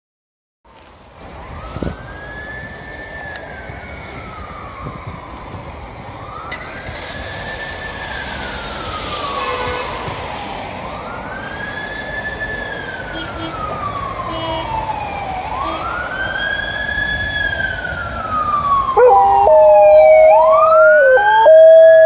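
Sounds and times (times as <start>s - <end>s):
street traffic: 0.7s - 22.0s
ambulance siren wailing: 1.4s - 22.0s.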